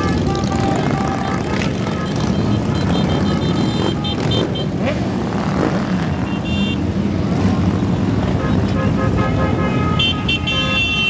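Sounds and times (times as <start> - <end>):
motorcycles riding past: 0.0 - 9.9.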